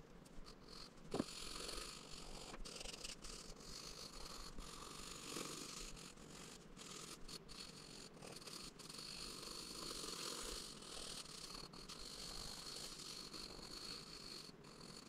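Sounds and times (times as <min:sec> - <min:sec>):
pencil scratching on paper: 0:00.4 - 0:15.0.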